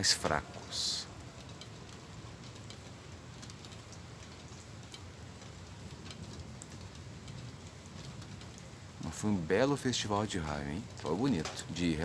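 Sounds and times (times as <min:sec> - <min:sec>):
raindrops ticking: 0:00.0 - 0:12.0.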